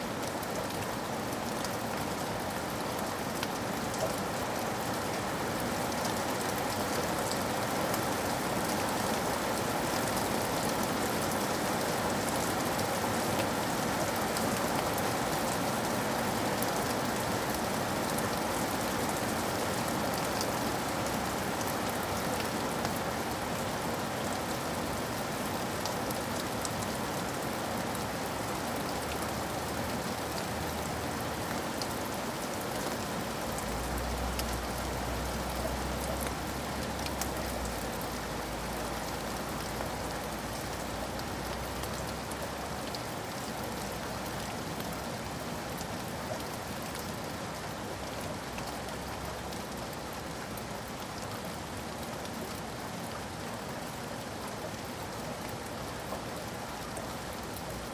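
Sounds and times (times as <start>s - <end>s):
heavy rain on a window: 0.0s - 57.9s.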